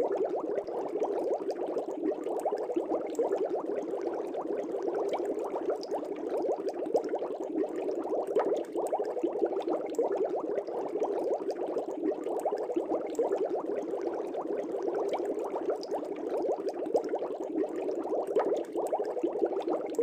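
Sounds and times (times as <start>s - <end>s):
aquarium bubbling: 0.0s - 20.0s.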